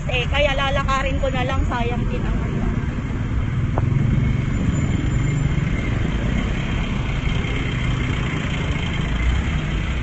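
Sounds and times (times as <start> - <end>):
passing vehicle engines rumbling: 0.0 - 10.0.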